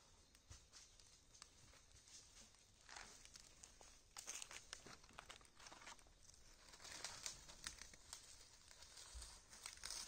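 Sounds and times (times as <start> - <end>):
faint crackles and ticks: 0.0 - 10.0.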